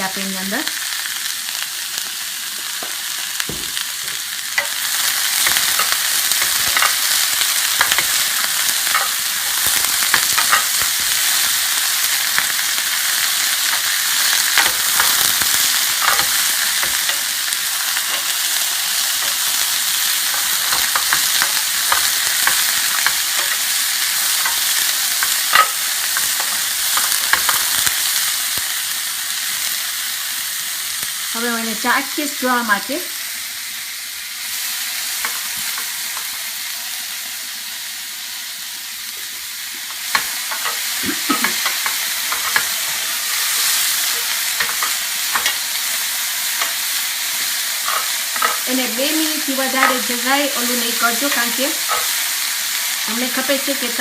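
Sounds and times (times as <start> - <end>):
vegetables sizzling in a frying pan: 0.0 - 54.0.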